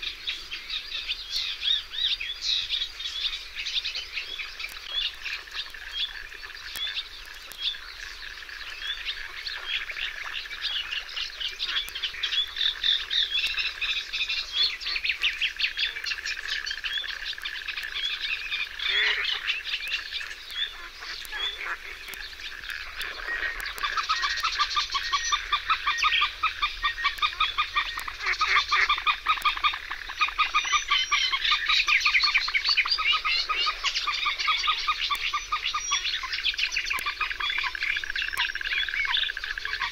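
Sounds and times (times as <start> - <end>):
birds chirping chorus: 0.0 - 39.9.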